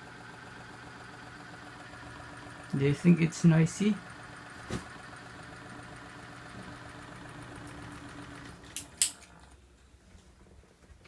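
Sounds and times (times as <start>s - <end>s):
electric fan humming: 0.0s - 9.8s.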